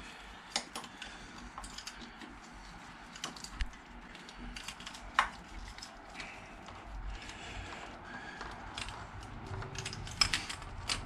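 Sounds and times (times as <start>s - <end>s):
plastic connectors clicking and rattling: 0.4s - 11.0s.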